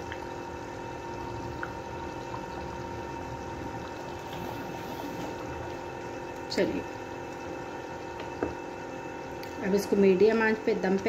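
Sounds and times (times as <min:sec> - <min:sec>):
faint hum: 0:00.0 - 0:11.0
gravy bubbling in pot: 0:00.0 - 0:11.0.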